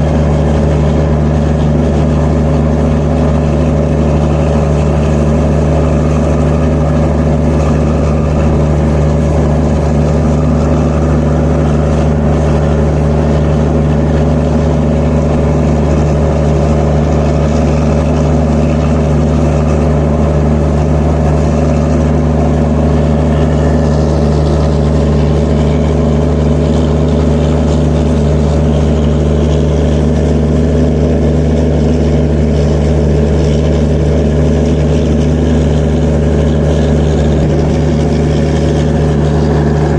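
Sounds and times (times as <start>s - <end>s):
diesel generator engine drone: 0.0s - 39.9s.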